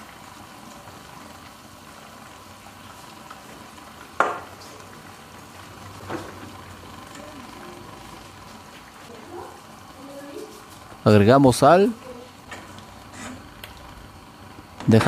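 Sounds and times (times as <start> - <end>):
broth bubbling in pot: 0.0 - 15.0.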